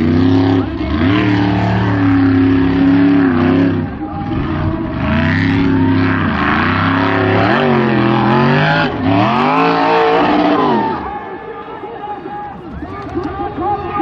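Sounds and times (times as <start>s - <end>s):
buggy engine revving: 0.0s - 11.2s.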